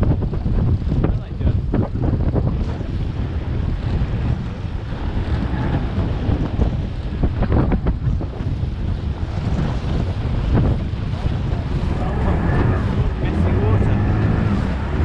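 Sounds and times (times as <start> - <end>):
water splashing around boat: 0.0 - 15.0
wind buffeting microphone: 0.0 - 15.0.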